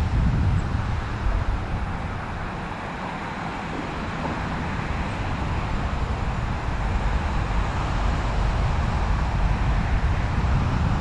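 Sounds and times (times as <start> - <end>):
steady outdoor roar: 0.0 - 11.0
wind buffeting microphone: 0.0 - 11.0.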